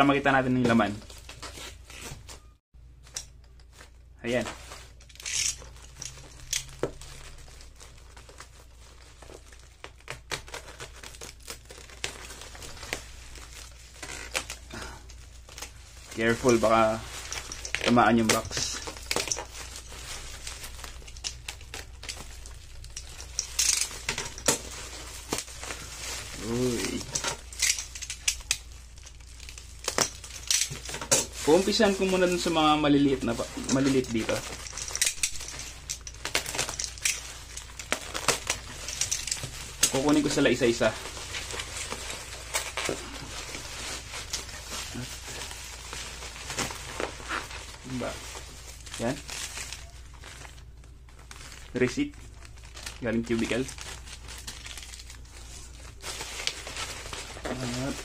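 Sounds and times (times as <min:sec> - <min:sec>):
bubble wrap crinkling: 0:00.0 - 0:58.0.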